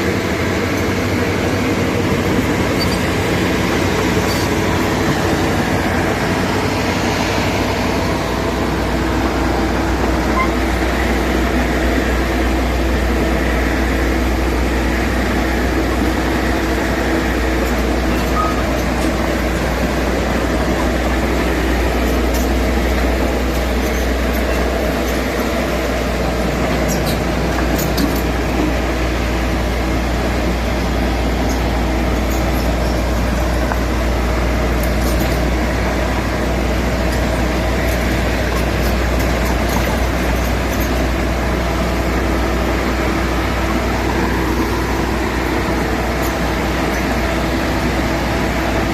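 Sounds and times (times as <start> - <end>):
diesel engine humming: 0.0 - 48.9.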